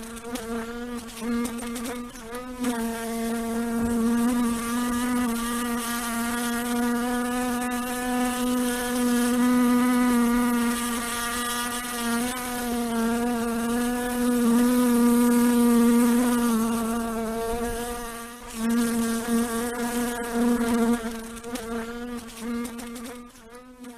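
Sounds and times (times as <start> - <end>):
fly buzzing: 0.0 - 23.9.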